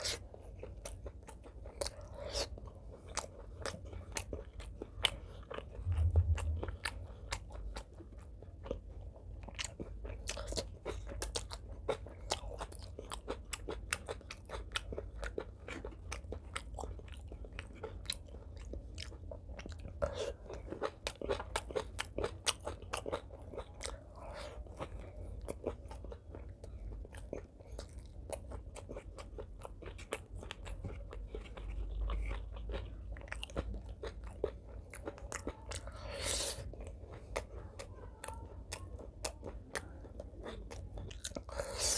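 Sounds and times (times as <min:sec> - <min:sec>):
chewing food: 0:00.0 - 0:41.9.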